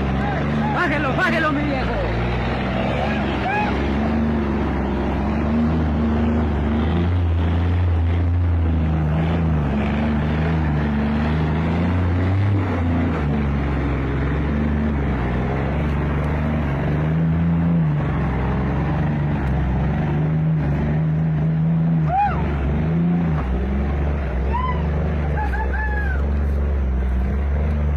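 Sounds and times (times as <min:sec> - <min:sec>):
truck diesel engine labouring: 0:00.0 - 0:27.9.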